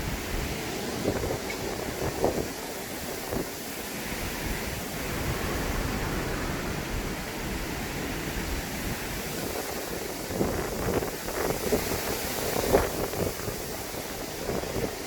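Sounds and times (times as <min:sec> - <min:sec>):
strong wind blowing: 0:00.0 - 0:15.0
wind rumble on microphone: 0:00.0 - 0:15.0.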